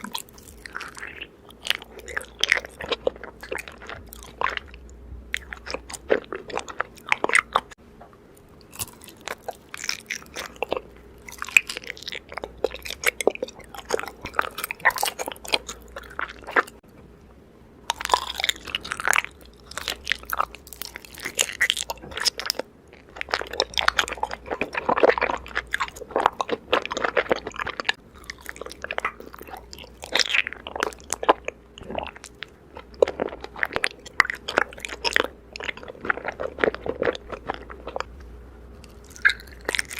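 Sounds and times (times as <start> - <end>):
honeycomb crunching and chewing: 0.0 - 7.8, 8.4 - 16.8, 17.9 - 38.1, 38.8 - 39.9.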